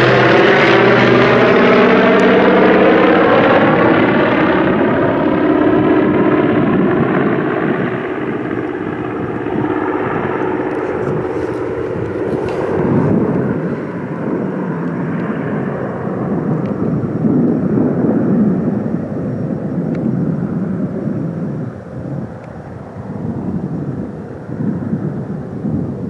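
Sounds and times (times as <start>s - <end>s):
propeller aircraft engines droning: 0.0s - 26.0s.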